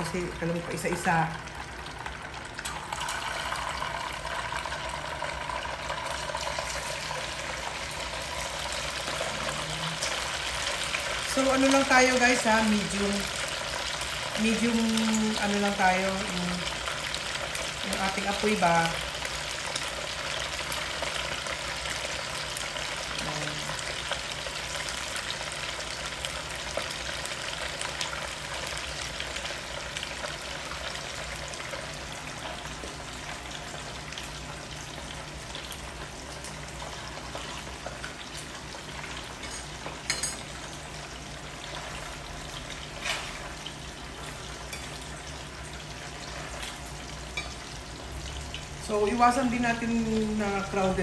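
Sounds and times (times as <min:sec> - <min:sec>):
meat sizzling in hot oil: 0:00.0 - 0:51.0.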